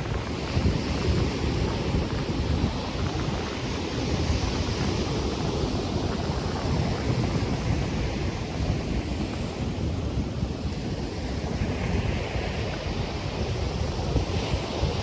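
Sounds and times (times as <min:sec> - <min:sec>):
ocean surf washing on shore: 0:00.0 - 0:15.0
wind buffeting microphone: 0:00.0 - 0:15.0
wind through palm trees: 0:00.0 - 0:15.0.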